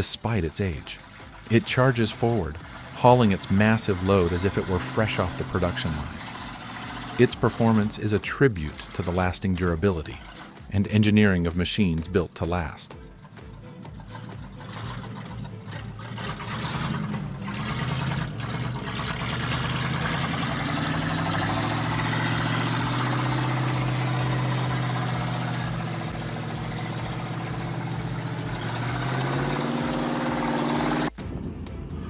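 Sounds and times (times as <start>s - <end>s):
truck engine under heavy load: 0.0s - 32.0s.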